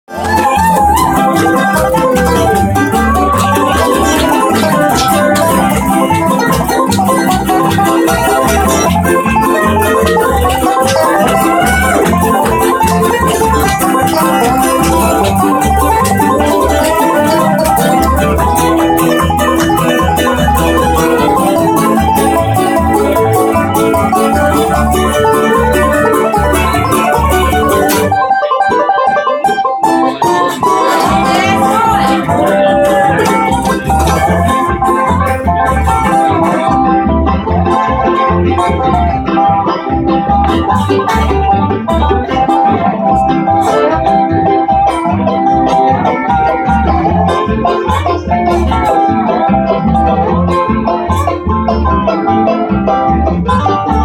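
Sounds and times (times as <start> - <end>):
acoustic guitar: 0.0 - 54.0
banjo picking: 0.0 - 54.0
mandolin picking: 0.0 - 54.0
upright bass: 0.0 - 54.0
sliding steel guitar notes: 0.1 - 54.0.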